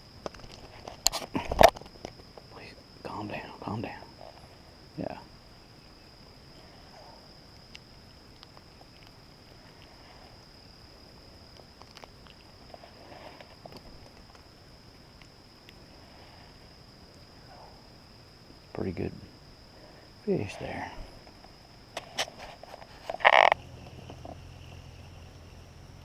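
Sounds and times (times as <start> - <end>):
high-pitched insect drone: 0.0 - 26.0
small ticks and rustles: 0.0 - 26.0.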